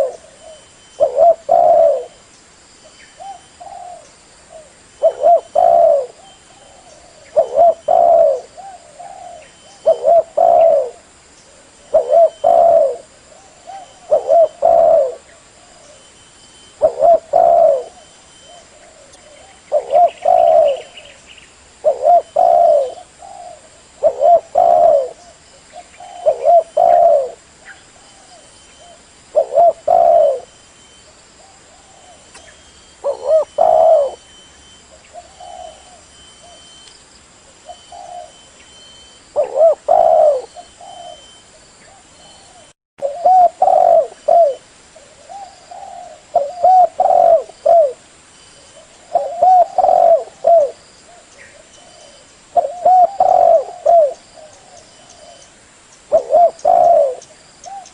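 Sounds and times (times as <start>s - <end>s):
dove cooing: 0.0s - 2.2s, 3.2s - 16.1s, 16.7s - 21.2s, 21.8s - 30.6s, 31.4s - 36.8s, 37.6s - 48.0s, 48.6s - 57.9s.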